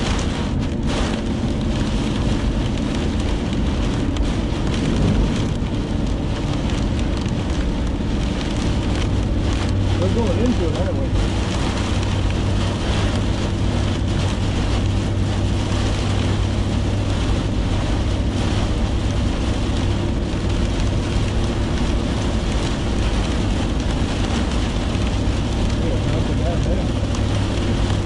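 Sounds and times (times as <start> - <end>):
heavy rain on a car: 0.0 - 28.0
tyre and engine hum: 0.0 - 28.0.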